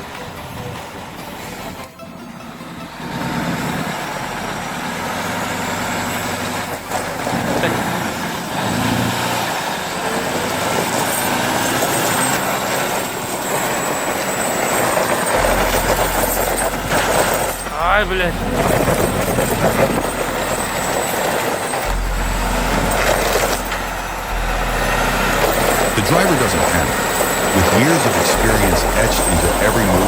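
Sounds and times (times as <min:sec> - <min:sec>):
truck engine revving hard: 0:02.4 - 0:30.0
wheels spinning in snow: 0:02.5 - 0:30.0.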